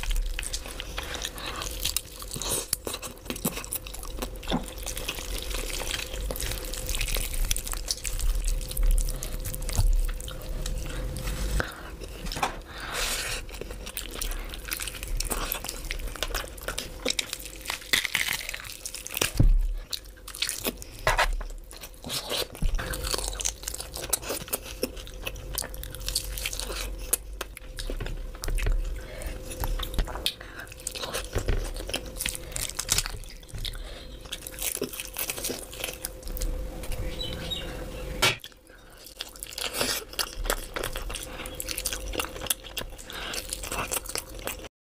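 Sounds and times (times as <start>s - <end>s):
faint steady hum: 0.0s - 44.7s
person chewing food: 0.0s - 44.7s.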